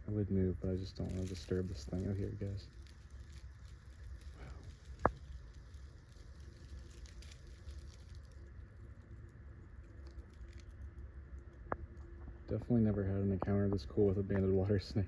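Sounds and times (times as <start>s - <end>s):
faint low outdoor rumble: 0.0s - 15.0s.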